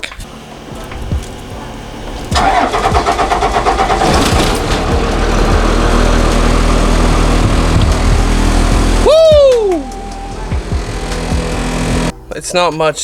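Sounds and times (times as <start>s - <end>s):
bus engine idling: 0.0s - 12.1s
starter motor cranking: 0.0s - 12.1s.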